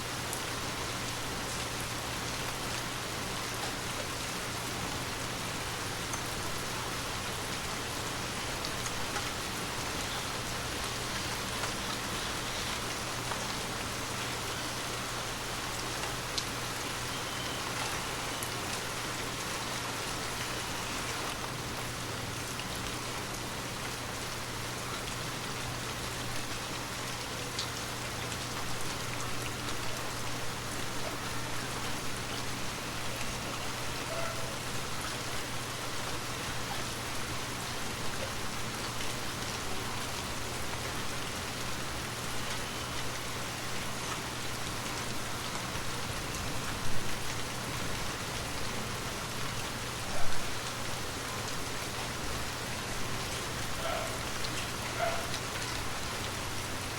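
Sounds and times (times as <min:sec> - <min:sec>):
gentle rain falling: 0:00.0 - 0:56.9.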